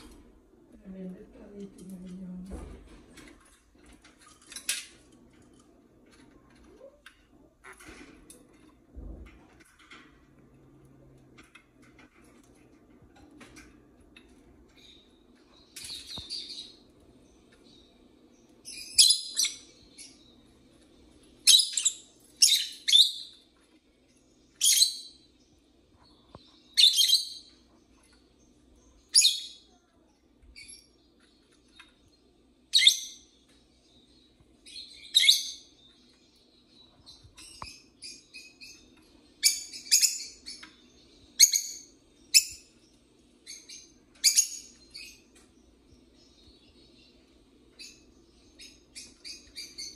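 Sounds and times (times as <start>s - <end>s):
lovebirds chirping: 0.0s - 49.9s.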